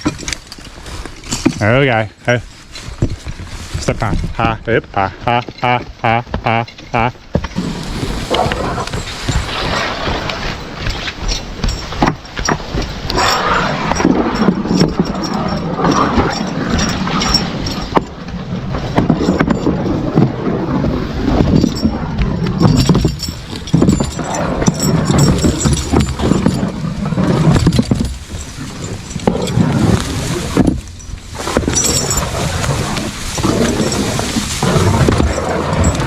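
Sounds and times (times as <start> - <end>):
footsteps: 0.0 - 15.3, 20.8 - 36.0
harness clinking: 0.0 - 36.0
horse hoofbeats: 0.0 - 36.0.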